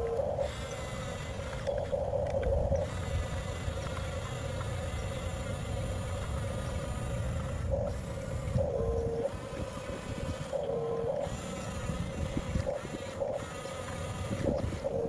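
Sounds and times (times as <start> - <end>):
electric toy motors whining: 0.0 - 15.0
second motor whirring: 0.0 - 15.0.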